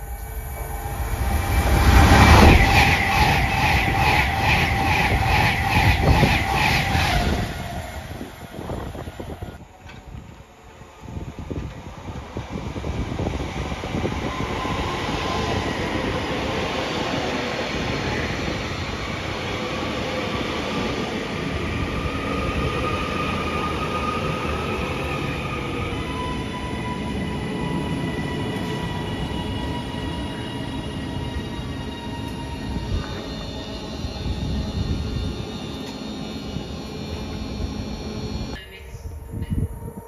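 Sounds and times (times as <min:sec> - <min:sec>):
train wheels rushing on rail: 0:00.0 - 0:38.8
high steady train whine: 0:00.0 - 0:40.0.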